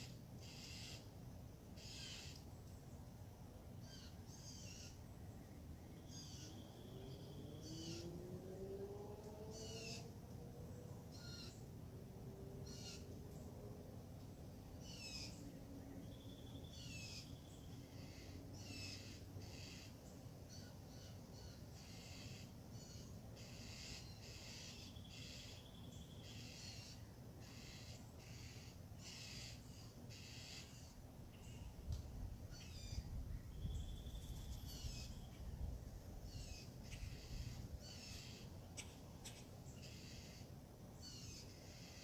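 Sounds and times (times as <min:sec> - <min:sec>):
low background hum: 0:00.0 - 0:42.0
songbird singing: 0:00.0 - 0:42.0.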